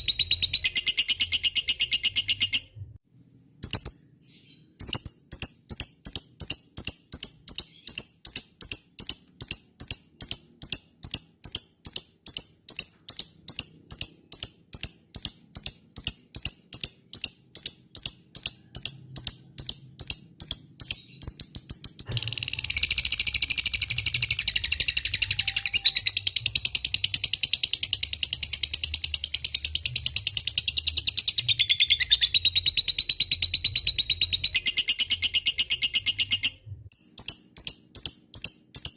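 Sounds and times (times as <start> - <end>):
lovebird chirping and chattering: 0.0 - 2.8, 3.6 - 38.9.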